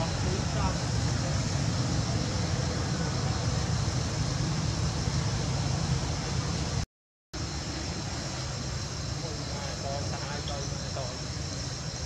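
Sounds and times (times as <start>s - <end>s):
even hiss: 0.0s - 6.8s, 7.4s - 12.0s.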